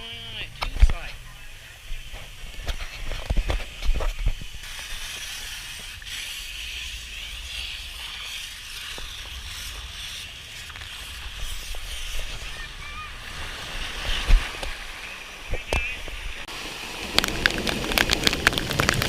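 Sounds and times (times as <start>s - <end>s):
rushing water in tube slide: 0.0s - 19.0s.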